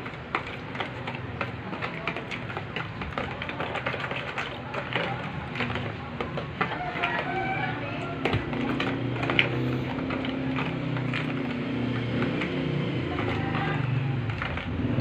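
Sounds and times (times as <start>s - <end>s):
hand mixing wet marinade: 0.0s - 15.0s.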